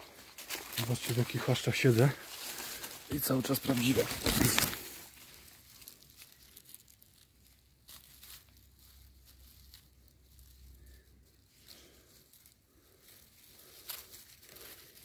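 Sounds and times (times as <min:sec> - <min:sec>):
twigs rustling and crackling: 0:00.0 - 0:15.0.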